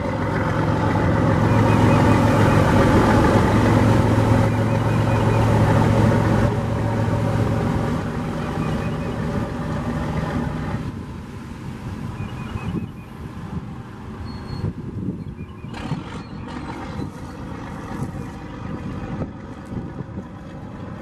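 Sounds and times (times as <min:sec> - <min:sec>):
diesel engine humming: 0:00.0 - 0:21.0
propeller churning water: 0:00.0 - 0:21.0.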